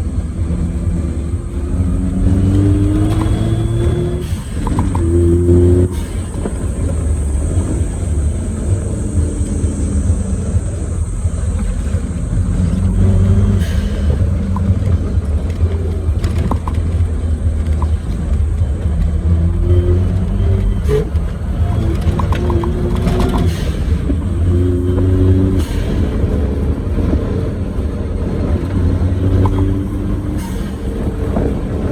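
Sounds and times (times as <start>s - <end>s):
car engine running: 0.0s - 31.9s
low tyre drone: 0.0s - 31.9s.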